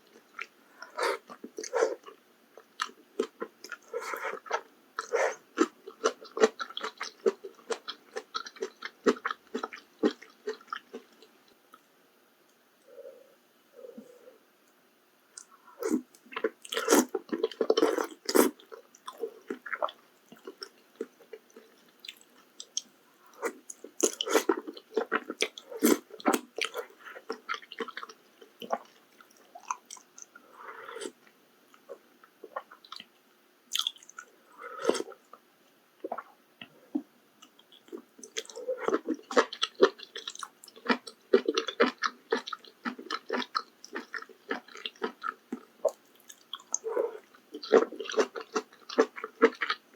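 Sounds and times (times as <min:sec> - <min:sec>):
close-miked crunchy chewing: 0:00.0 - 0:13.2, 0:13.8 - 0:49.9.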